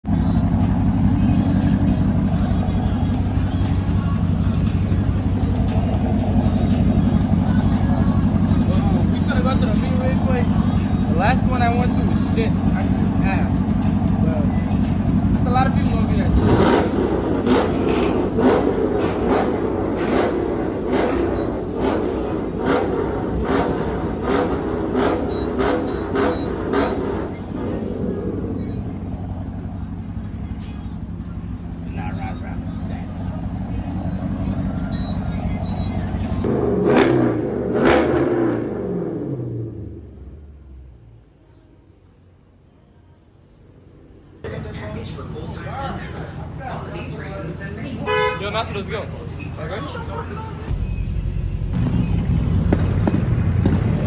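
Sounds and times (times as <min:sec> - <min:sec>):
car engine running: 0:00.0 - 0:41.3, 0:44.3 - 0:54.0.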